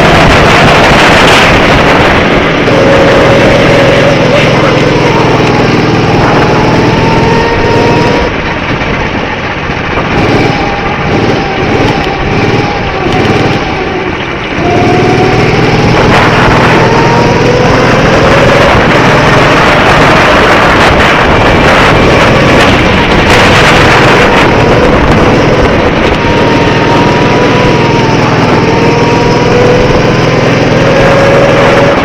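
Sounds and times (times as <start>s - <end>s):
go-kart engine revving: 0.0s - 32.0s.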